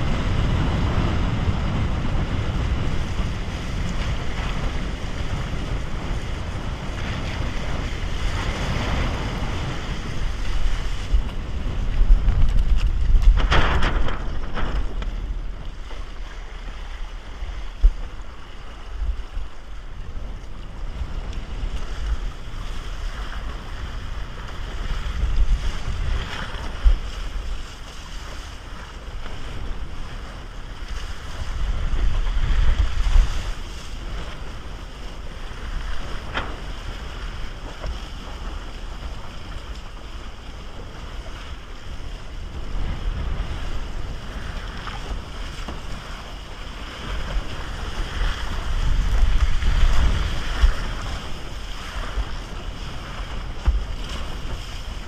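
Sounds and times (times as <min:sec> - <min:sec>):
water rushing and splashing: 0:00.0 - 0:55.0
wind buffeting microphone: 0:00.0 - 0:55.0.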